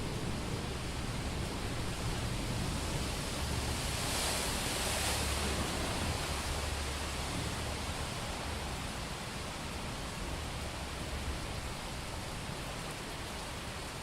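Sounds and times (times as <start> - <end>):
heavy rain on a street: 0.0 - 14.0.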